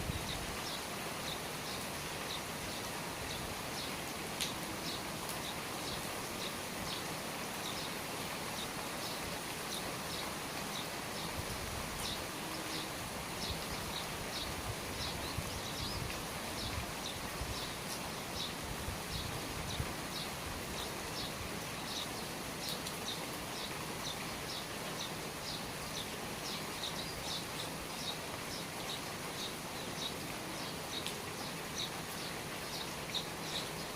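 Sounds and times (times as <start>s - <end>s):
steady rain hiss: 0.0s - 33.9s.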